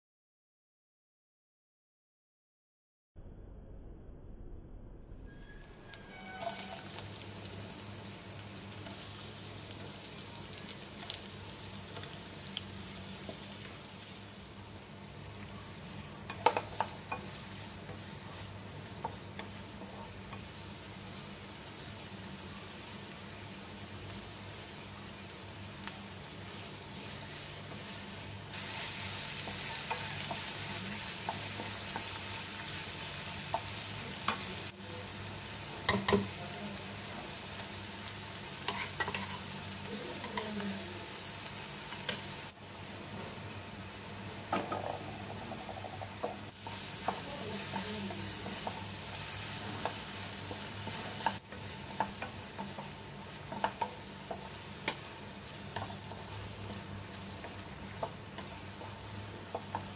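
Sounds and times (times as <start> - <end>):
onions sizzling in oil: 5.3 - 59.9.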